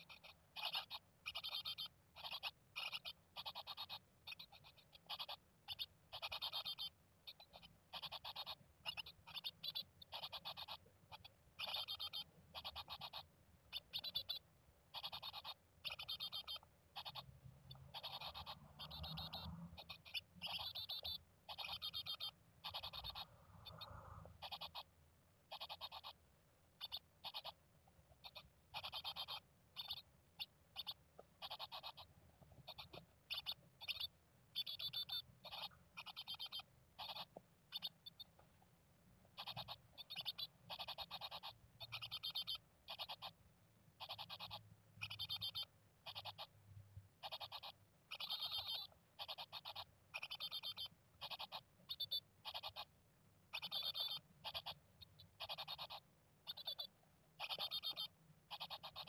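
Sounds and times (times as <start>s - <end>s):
nestlings buzzy begging calls: 0.0s - 24.9s, 25.5s - 26.2s, 26.8s - 38.3s, 39.3s - 43.4s, 44.0s - 46.6s, 47.2s - 52.9s, 53.5s - 59.0s.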